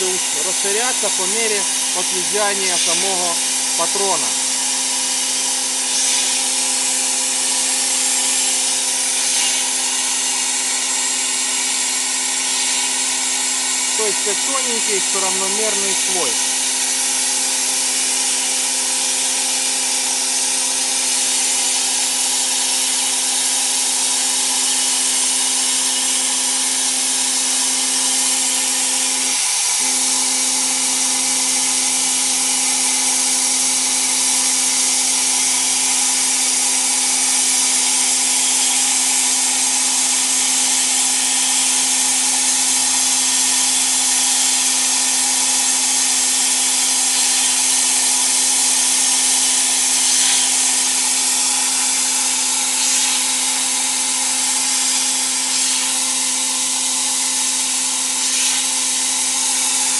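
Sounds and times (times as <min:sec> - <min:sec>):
spray gun loud hiss: 0:00.0 - 0:18.8, 0:27.4 - 0:59.9.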